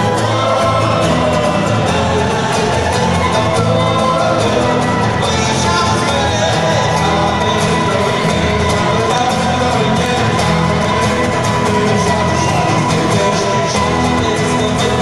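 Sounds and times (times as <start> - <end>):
guitars and violin playing: 0.0 - 15.0.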